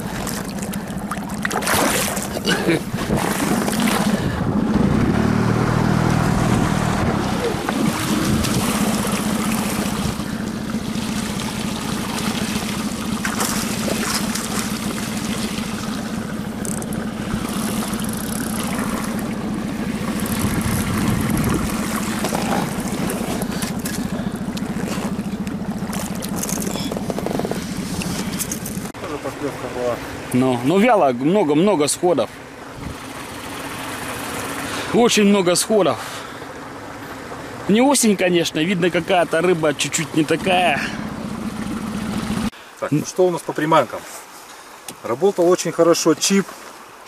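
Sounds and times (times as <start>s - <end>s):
outboard motor running: 0.0s - 45.0s.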